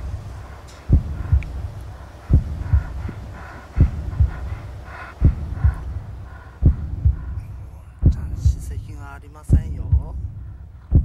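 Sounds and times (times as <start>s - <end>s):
dog breathing heavily: 0.0s - 8.8s.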